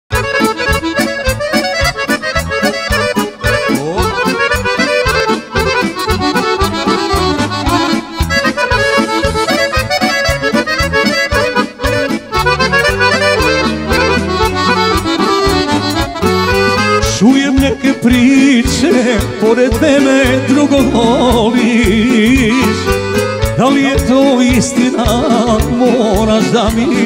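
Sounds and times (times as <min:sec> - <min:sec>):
accordion melody: 0:00.1 - 0:27.0
drum kit beat: 0:00.1 - 0:27.0
keyboards: 0:00.1 - 0:27.0.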